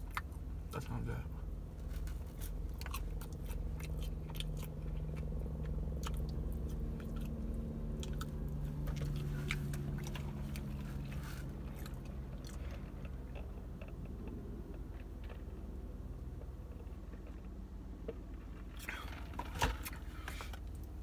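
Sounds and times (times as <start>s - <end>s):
close chewing with mouth smacks: 0.0s - 0.5s, 1.8s - 21.0s
steady low hum: 0.0s - 21.0s.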